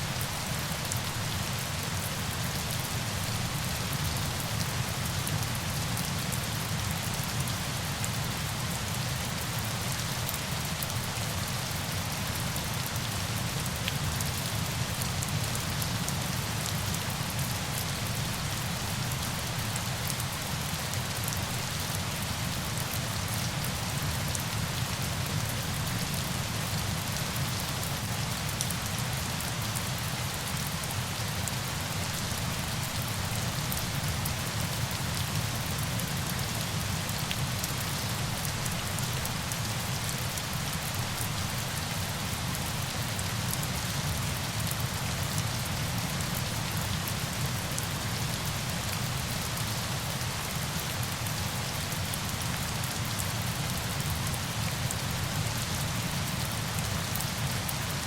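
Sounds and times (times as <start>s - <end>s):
steady falling water: 0.0s - 58.0s.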